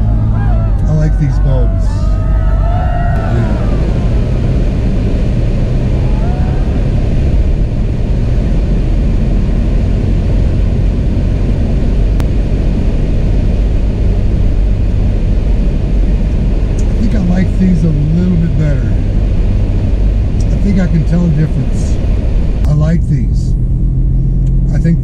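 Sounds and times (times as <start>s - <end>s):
car engine rumble from inside cab: 0.0s - 25.0s
road noise: 0.0s - 25.0s.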